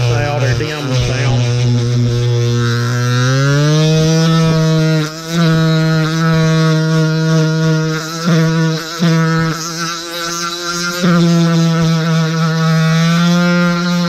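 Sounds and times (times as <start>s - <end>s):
rotary tool motor whine: 0.0s - 14.0s.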